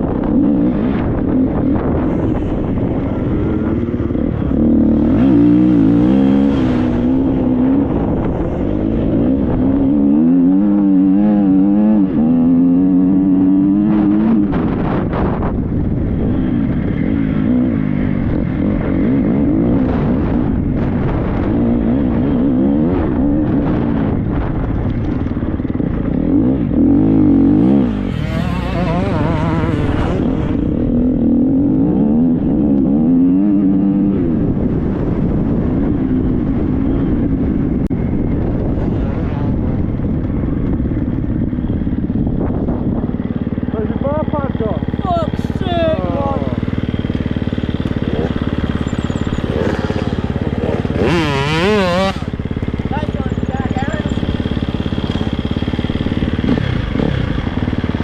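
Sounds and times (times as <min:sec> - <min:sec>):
motocross bike engine revving: 0:00.0 - 0:24.2, 0:25.6 - 0:58.0.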